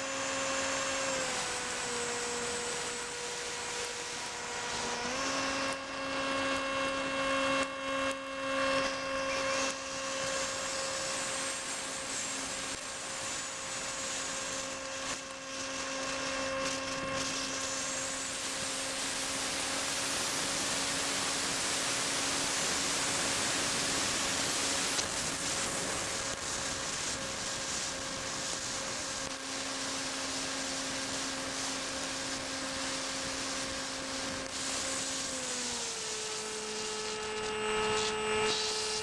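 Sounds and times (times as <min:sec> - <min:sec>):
wind and rain on microphone: 0:00.0 - 0:37.2
model aircraft motor hum: 0:00.0 - 0:39.0.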